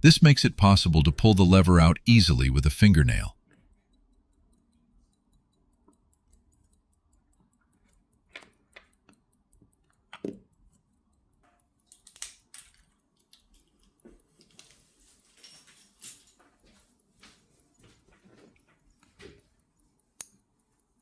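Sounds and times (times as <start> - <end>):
faint metal clicks and taps: 3.4 - 21.0.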